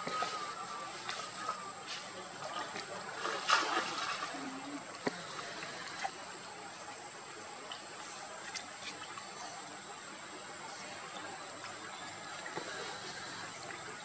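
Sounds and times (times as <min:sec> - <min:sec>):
water lapping and splashing: 0:00.0 - 0:14.0.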